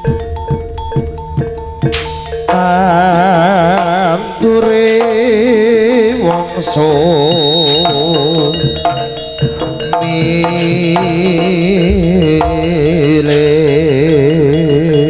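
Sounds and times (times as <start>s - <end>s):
drum strokes: 0.0s - 14.4s
held tones: 0.0s - 15.0s
wavering lead melody: 0.0s - 15.0s.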